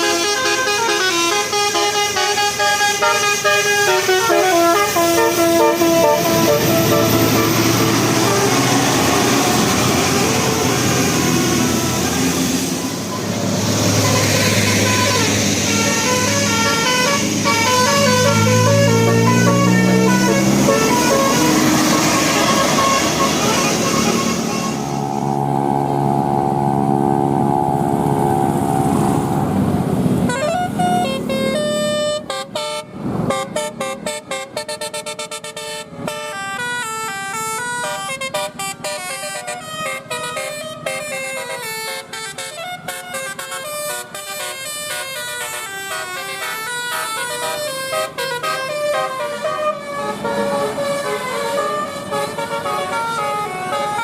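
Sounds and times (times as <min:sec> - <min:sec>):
musical bus horn: 0:00.0 - 0:28.2, 0:30.1 - 0:54.0
rumbling road noise: 0:00.0 - 0:54.0.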